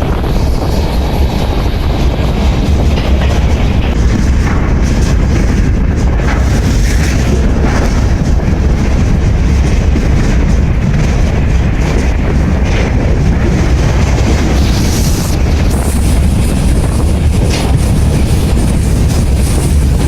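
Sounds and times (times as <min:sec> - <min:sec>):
freight train rumble and clatter: 0:00.0 - 0:20.0
wheels clicking over rail joints: 0:00.0 - 0:20.0.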